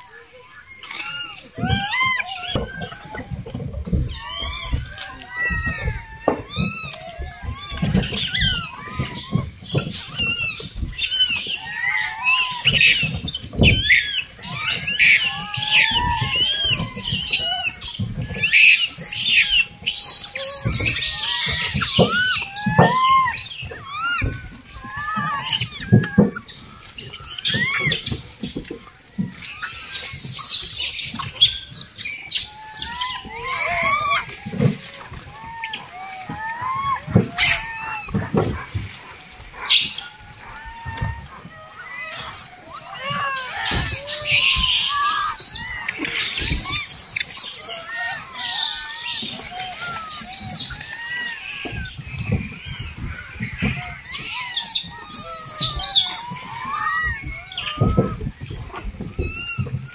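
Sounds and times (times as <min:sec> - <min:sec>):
monkeys squealing and chirping: 0:00.0 - 0:59.9.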